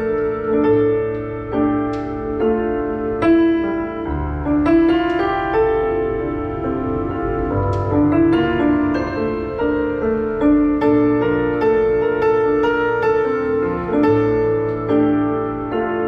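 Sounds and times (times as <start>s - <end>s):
digital piano slow melody: 0.0s - 16.0s.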